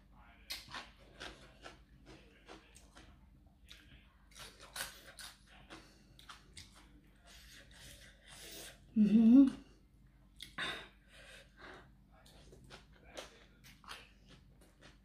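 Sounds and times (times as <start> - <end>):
crunching and chewing salad: 0.4 - 9.6, 11.7 - 15.0.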